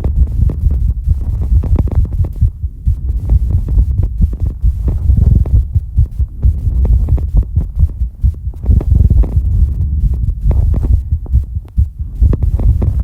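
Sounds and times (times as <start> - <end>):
fast heartbeat thumps: 0.0 - 13.0.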